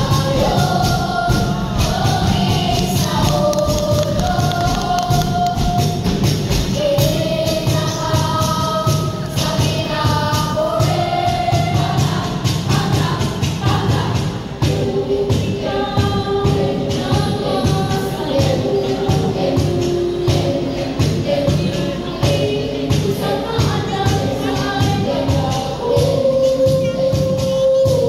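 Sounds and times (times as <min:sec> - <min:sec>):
children's choir singing: 0:00.0 - 0:28.0
percussion beat: 0:00.0 - 0:28.0.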